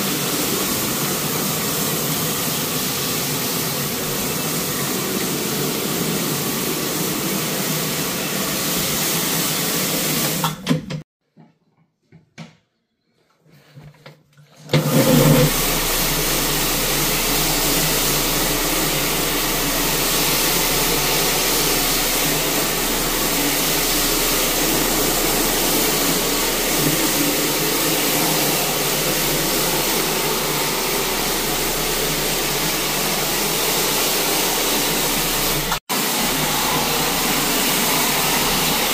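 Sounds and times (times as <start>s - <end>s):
floor machine scrubbing carpet: 0.0s - 10.5s, 14.7s - 38.9s.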